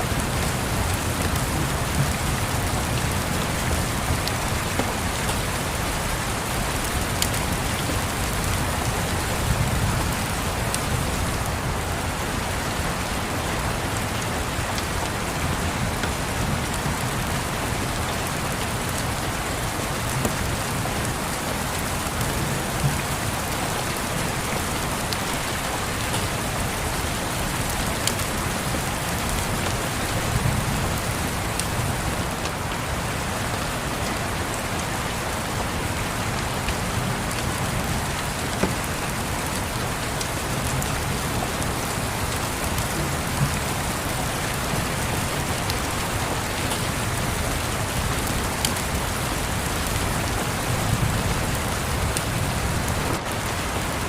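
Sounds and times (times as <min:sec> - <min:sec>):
rain on windows: 0:00.0 - 0:54.0.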